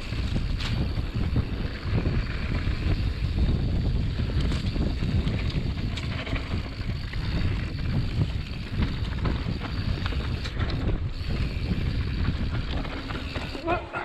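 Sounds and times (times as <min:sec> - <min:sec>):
bike tyres rolling on dirt: 0:00.0 - 0:14.0
wind buffeting microphone: 0:00.0 - 0:14.0.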